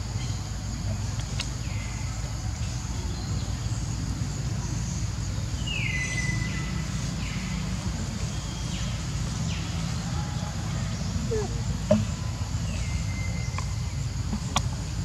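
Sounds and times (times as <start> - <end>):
low rumble of outdoor noise: 0.0 - 15.0.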